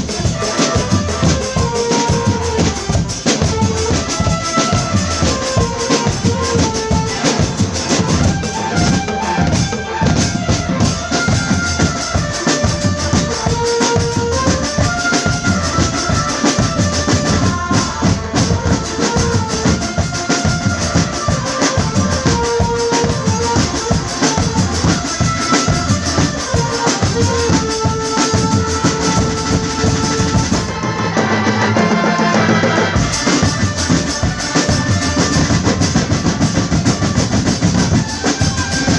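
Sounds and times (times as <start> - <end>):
snare and bass drums: 0.0 - 38.9.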